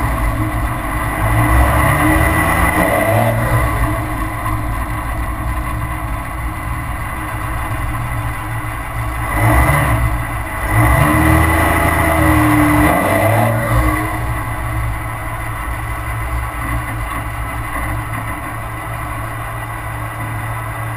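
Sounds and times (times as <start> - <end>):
diesel truck exhaust: 0.0 - 20.9
wind and road noise: 0.0 - 20.9.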